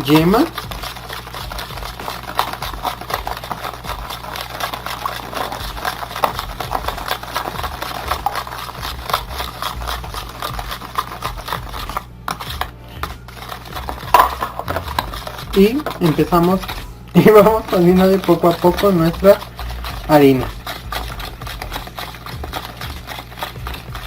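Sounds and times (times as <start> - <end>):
batter beaten in a bowl: 0.0 - 24.0
low steady hum: 0.0 - 24.0.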